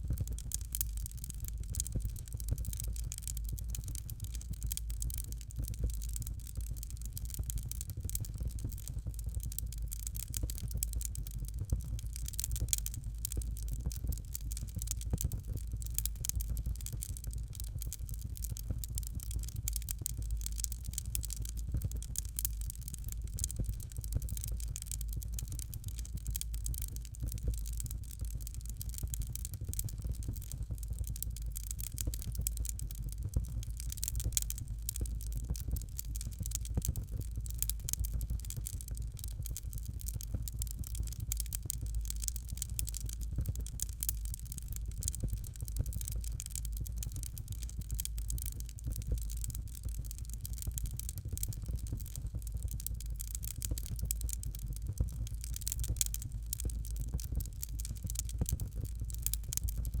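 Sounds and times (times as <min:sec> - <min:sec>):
fireplace fire crackling: 0:00.0 - 1:00.0.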